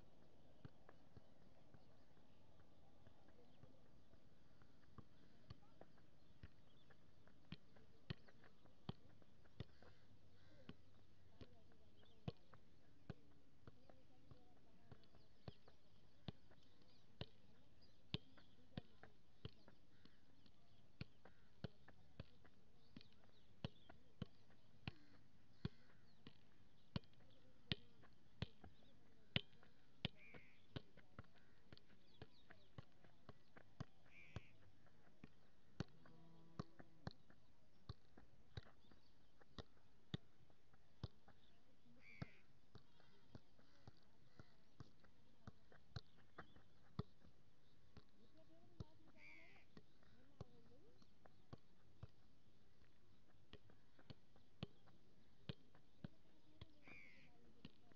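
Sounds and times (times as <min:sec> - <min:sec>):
football juggling thuds: 0:03.0 - 0:57.9.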